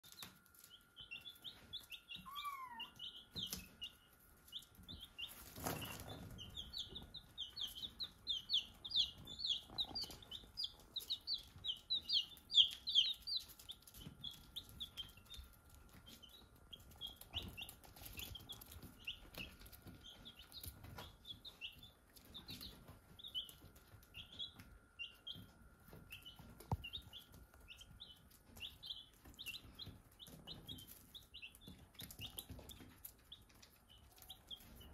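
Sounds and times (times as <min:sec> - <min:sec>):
baby chicks peeping: 0:00.0 - 0:34.9.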